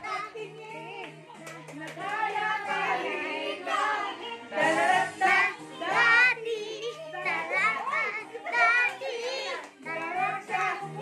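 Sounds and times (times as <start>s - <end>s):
children singing and calling out: 0.0s - 1.1s, 2.7s - 11.0s
background music: 0.0s - 11.0s.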